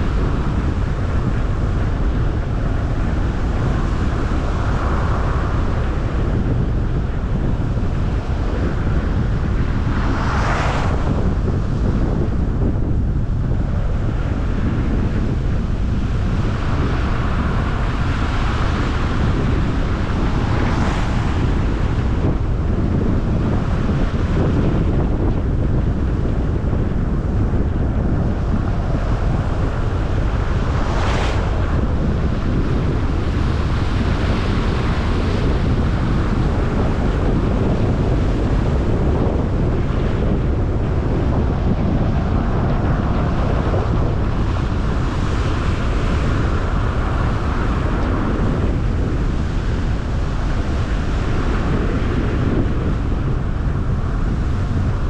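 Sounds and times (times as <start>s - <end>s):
car tyre and road rumble: 0.0s - 55.0s
wind buffeting microphone: 0.0s - 55.0s.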